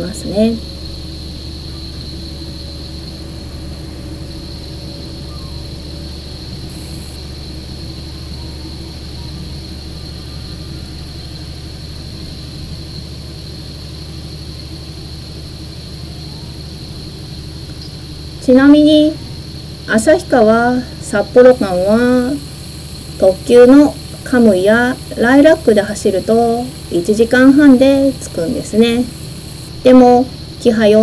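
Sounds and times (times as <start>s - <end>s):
diesel engine drone: 0.0s - 31.0s
high-pitched whine: 0.0s - 31.0s.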